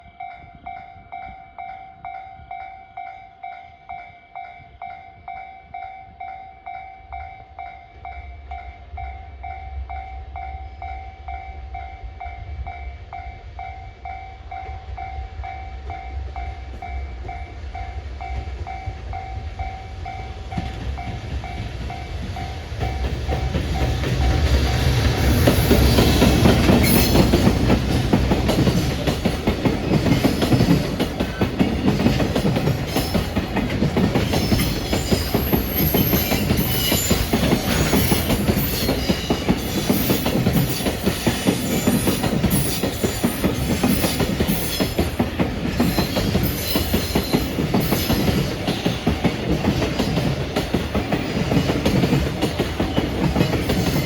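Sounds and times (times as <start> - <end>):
freight train rumble: 0.0 - 54.0.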